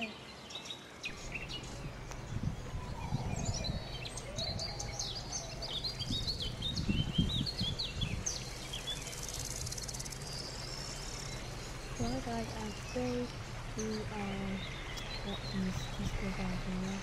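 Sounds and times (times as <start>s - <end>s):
small birds chirping: 0.0s - 17.0s
low outdoor rumble: 1.0s - 17.0s.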